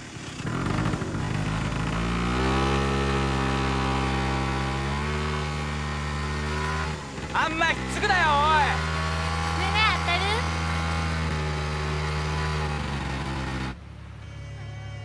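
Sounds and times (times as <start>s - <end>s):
scooter engine revving: 0.0s - 13.9s.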